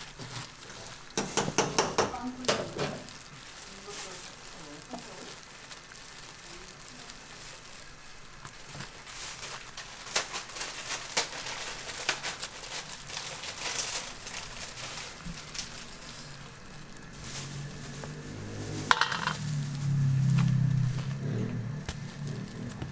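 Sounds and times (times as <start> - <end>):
plastic gloves crinkling: 0.0 - 22.9.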